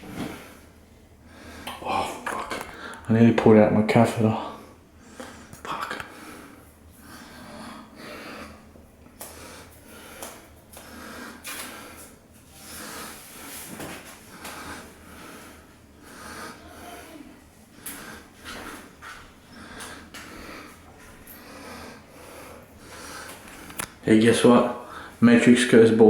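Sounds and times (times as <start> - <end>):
man breathing: 0.0 - 3.1, 4.5 - 24.0, 24.8 - 25.2.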